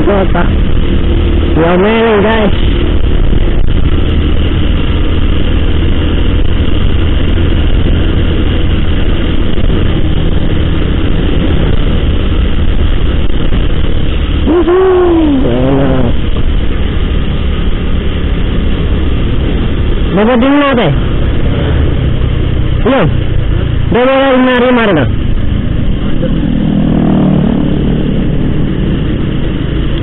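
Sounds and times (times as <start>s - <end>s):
motorcycle engine running: 0.0s - 30.0s
wind rushing on microphone: 0.0s - 30.0s.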